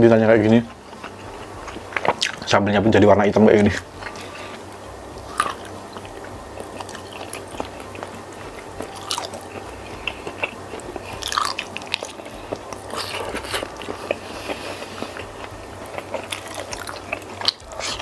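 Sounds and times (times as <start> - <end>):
chewing and biting: 0.7 - 2.5, 3.9 - 18.0.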